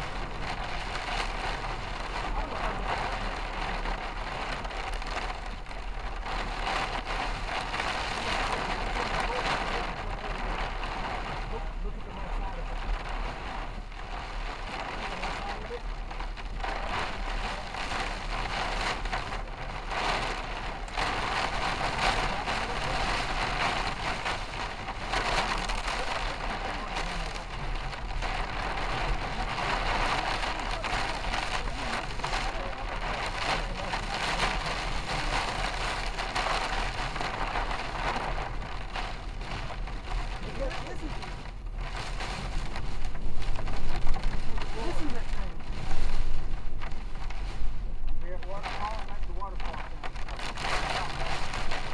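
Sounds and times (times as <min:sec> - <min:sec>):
low road hum: 0:00.0 - 0:51.9
rain on a moving vehicle: 0:00.0 - 0:51.9.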